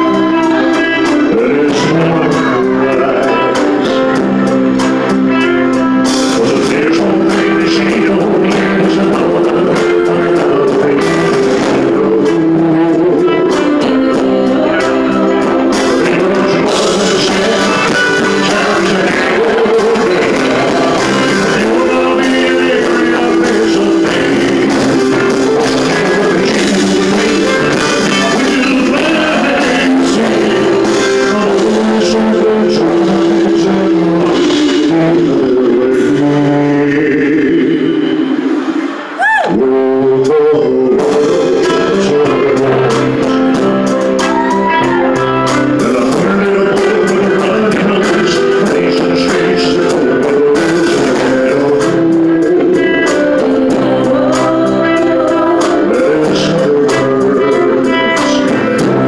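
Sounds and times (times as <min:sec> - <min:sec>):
person singing: 0:00.0 - 0:59.0
rock band playing loudly: 0:00.0 - 0:59.0.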